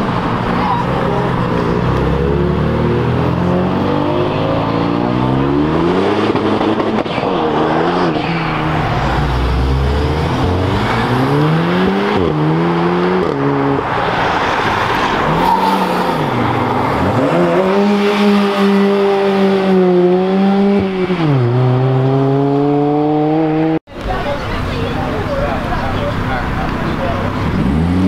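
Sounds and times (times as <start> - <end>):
cars accelerating engines revving: 0.0 - 23.8, 25.2 - 28.0.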